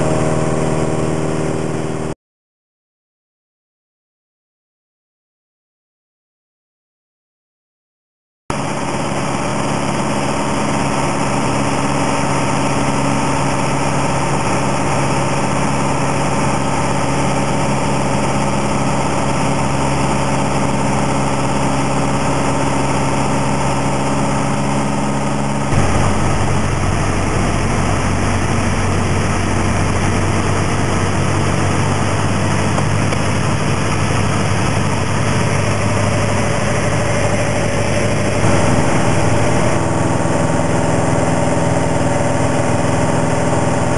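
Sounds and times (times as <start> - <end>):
aircraft engine and propeller drone: 0.0 - 2.2, 8.5 - 43.9.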